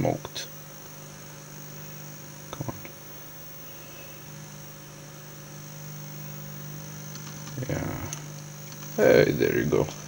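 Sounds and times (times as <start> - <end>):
electrical hum with high whines: 0.0 - 10.0.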